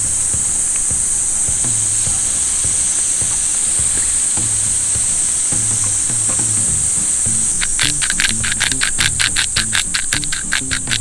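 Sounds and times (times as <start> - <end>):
background music with bass line: 0.0 - 11.0
fast even rattle: 0.0 - 11.0
steaks sizzling on a griddle: 0.0 - 11.0.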